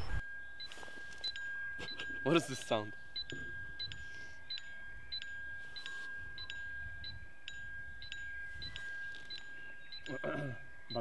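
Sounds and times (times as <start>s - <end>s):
steady high tone: 0.0s - 11.0s.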